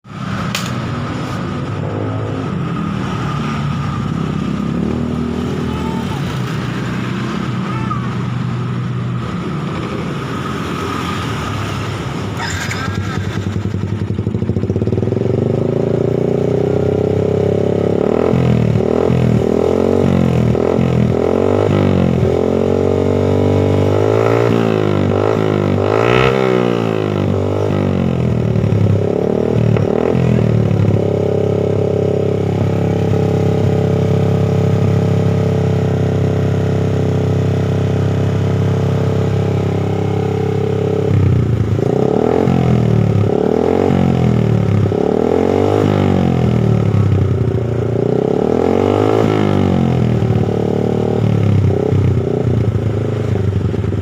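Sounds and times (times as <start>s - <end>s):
motorcycle engine revving: 0.1s - 54.0s.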